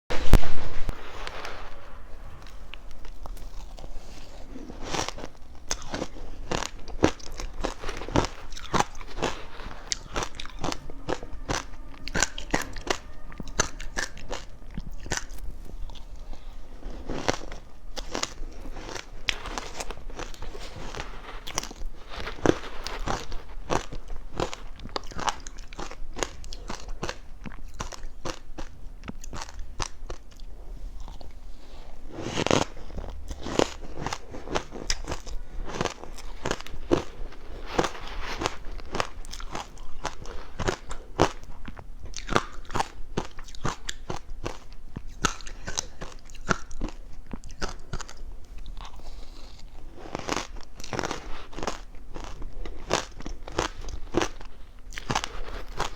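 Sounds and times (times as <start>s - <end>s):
ice being bitten and chewed: 2.4s - 55.9s.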